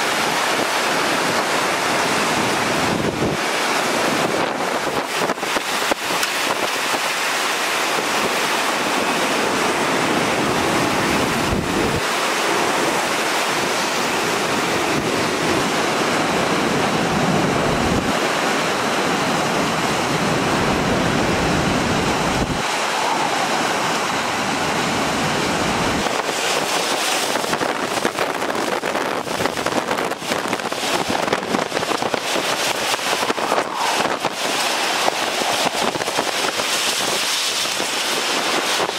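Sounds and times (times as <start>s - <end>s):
hurricane wind and rain: 0.0s - 38.9s
wind buffeting microphone: 0.1s - 38.9s.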